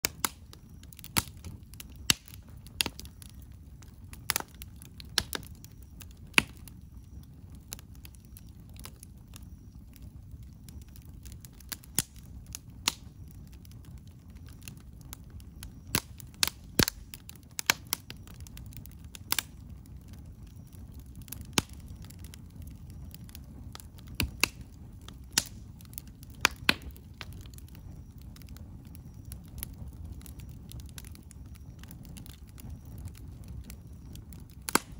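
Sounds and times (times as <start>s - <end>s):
campfire crackling: 0.0s - 34.9s
fire pops: 0.0s - 34.9s.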